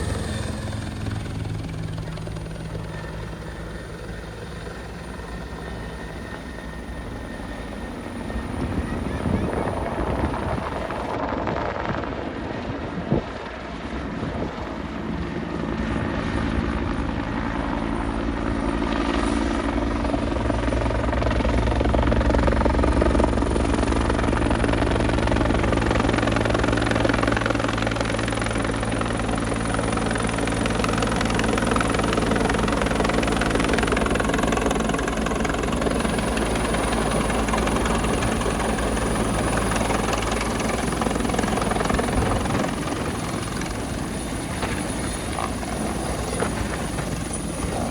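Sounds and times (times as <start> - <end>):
helicopter rotor chop and turbine: 0.0 - 47.9.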